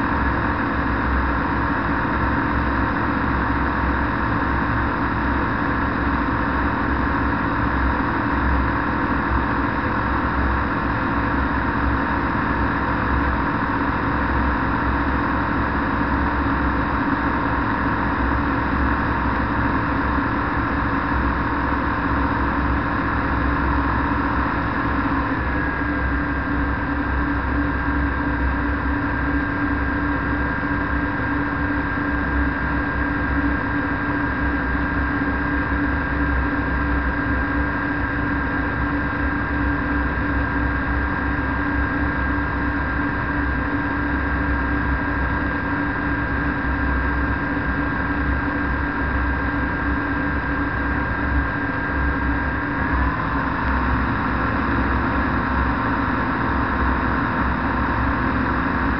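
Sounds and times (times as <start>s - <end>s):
microlight engine and propeller droning: 0.0s - 58.9s.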